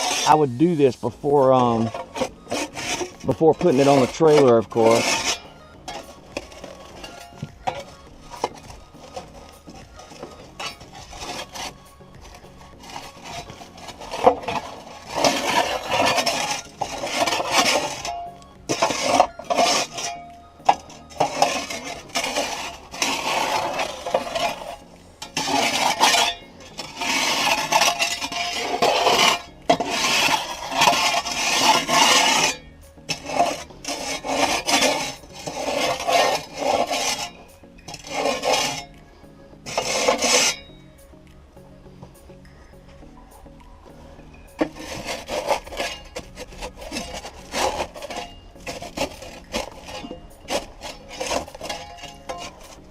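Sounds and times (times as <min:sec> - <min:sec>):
hand tool scraping packed dirt: 0:00.0 - 0:39.0, 0:39.6 - 0:40.8, 0:44.3 - 0:52.9.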